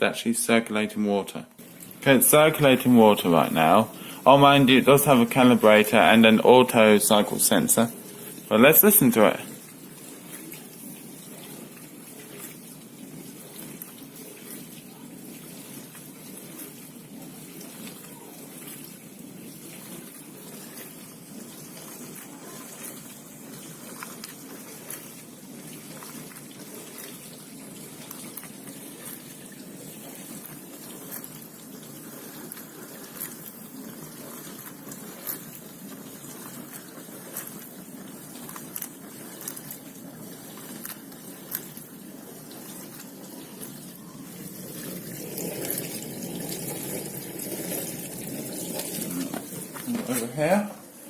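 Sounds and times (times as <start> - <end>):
dishwasher water swishing: 1.6 - 51.0.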